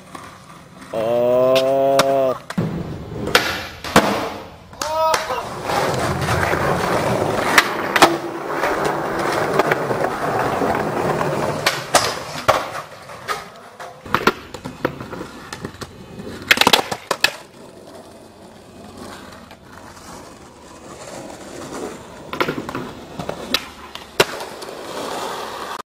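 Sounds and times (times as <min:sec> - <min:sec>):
skateboard clacks: 0:00.0 - 0:25.8
skateboard wheels rolling on concrete: 0:00.0 - 0:25.8.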